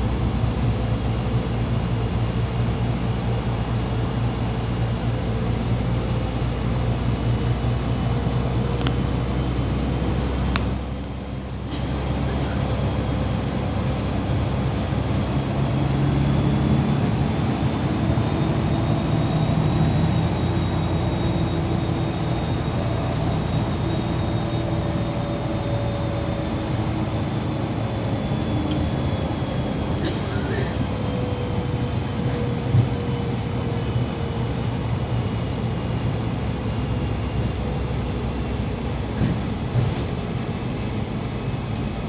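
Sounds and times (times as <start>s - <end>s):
bus diesel engine humming: 0.0s - 42.0s
road noise: 0.0s - 42.0s.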